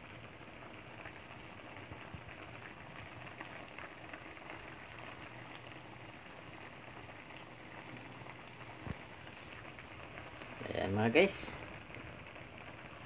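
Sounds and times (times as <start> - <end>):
broth bubbling with small pops: 0.1 - 10.8, 11.6 - 13.0.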